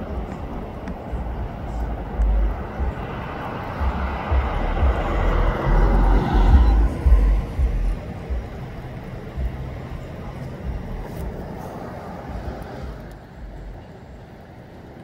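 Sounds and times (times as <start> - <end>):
wind buffeting microphone: 0.0 - 15.0
wind rushing through trees: 0.0 - 15.0.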